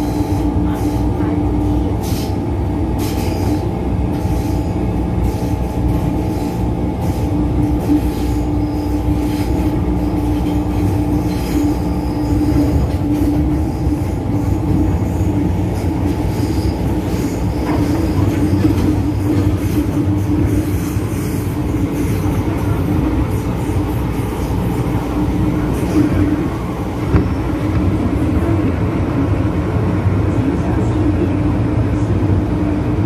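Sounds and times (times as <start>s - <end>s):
train whine: 0.0s - 33.0s
wheels rumbling on rails: 0.0s - 33.0s.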